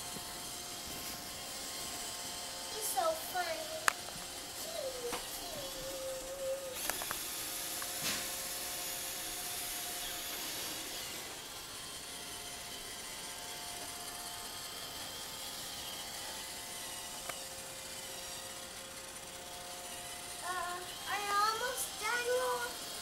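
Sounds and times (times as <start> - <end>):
robot vacuum whirring: 0.0 - 23.0.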